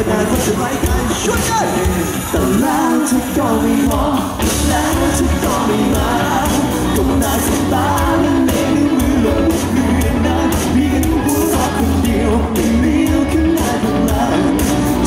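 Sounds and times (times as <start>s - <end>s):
drums: 0.0s - 15.0s
man singing lead: 0.0s - 15.0s
second singer: 0.0s - 15.0s.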